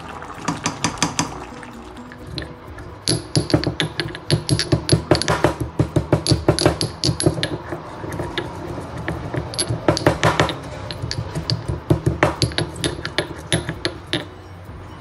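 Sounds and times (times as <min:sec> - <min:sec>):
pestle pounding spices in mortar: 0:02.3 - 0:14.4.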